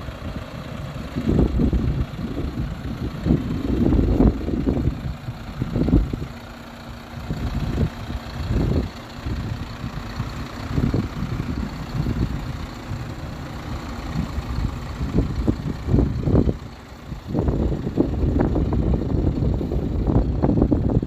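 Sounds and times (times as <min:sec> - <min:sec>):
diesel truck engine idling: 0:00.0 - 0:21.0
wind buffeting microphone: 0:00.1 - 0:21.0.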